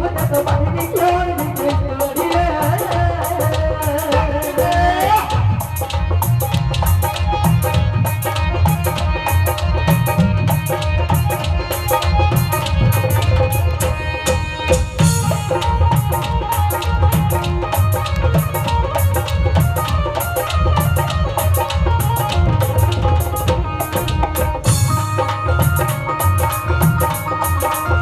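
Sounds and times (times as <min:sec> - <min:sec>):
steady drum beat: 0:00.0 - 0:28.0
held melody notes: 0:05.2 - 0:28.0.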